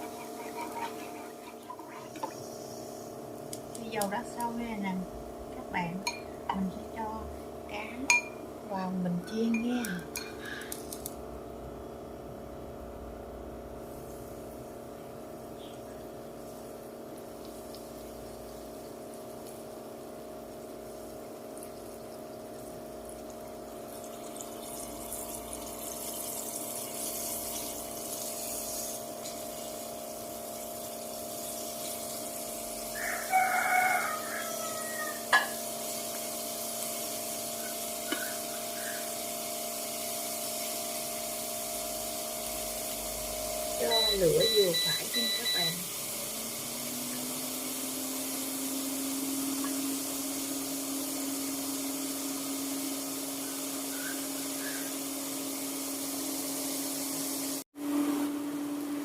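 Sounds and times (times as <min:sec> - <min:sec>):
fish frying in hot oil: 0:00.0 - 0:04.8, 0:07.7 - 0:57.6.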